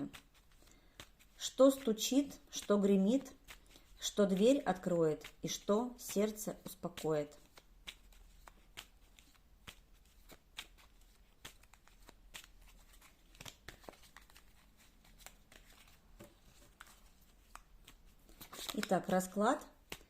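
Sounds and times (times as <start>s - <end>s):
cards being shuffled: 0.0s - 20.0s.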